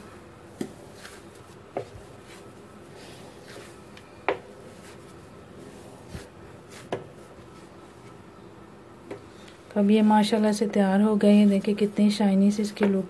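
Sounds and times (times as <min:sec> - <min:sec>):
faint steady hum: 0:00.0 - 0:13.0
hands kneading dough: 0:00.0 - 0:13.0.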